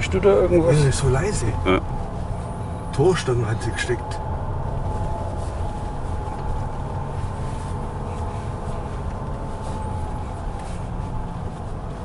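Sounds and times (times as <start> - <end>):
diesel engine rumble: 0.0 - 12.0
thin steady whine: 0.0 - 12.0.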